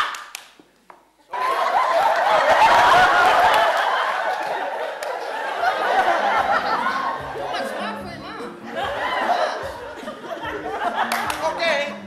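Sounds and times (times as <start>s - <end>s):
live audience laughing: 1.3s - 11.6s.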